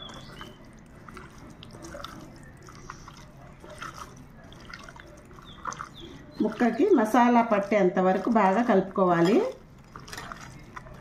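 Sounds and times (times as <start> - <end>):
hand squelching raw chicken: 0.0 - 11.0.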